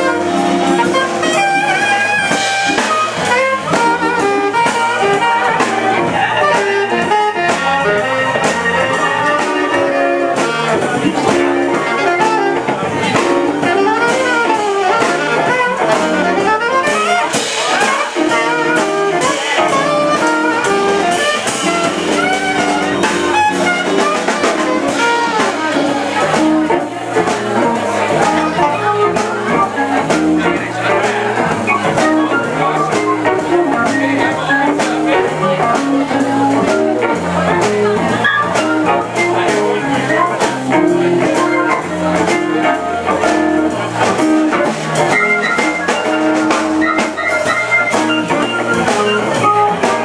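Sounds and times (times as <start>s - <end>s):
drum kit: 0.0s - 50.0s
electric keyboard: 0.0s - 50.0s
guitar: 0.0s - 50.0s
saxophone: 0.0s - 50.0s.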